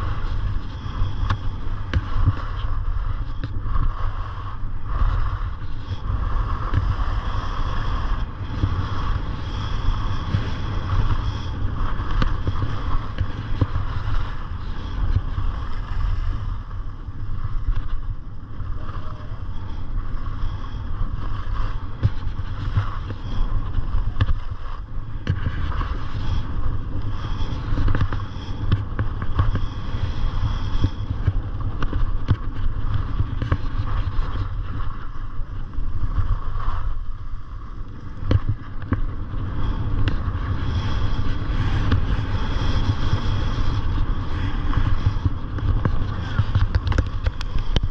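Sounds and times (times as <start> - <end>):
skis scraping on snow: 0.0 - 47.9
wind buffeting microphone: 0.0 - 47.9.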